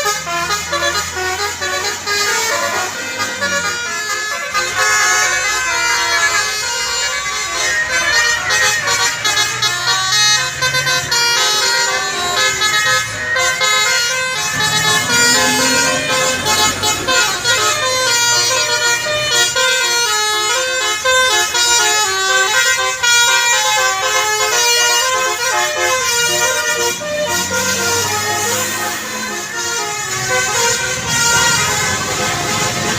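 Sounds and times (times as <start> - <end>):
musical bus air horn melody: 0.0 - 32.9.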